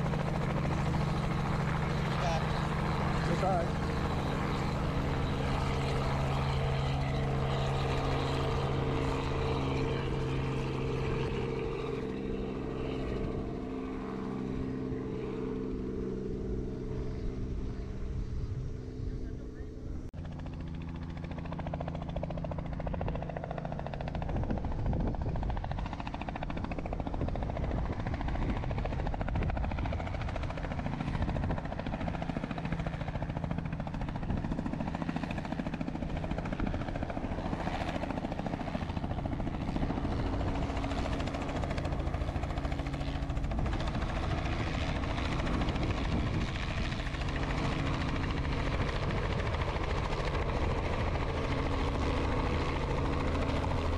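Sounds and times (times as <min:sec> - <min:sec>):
helicopter rotor and engine: 0:00.0 - 0:53.9.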